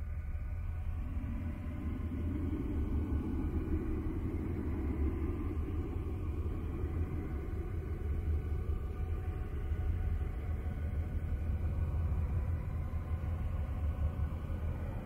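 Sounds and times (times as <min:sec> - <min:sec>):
faint steady tones: 0:00.0 - 0:15.0
low droning rumble: 0:00.0 - 0:15.0.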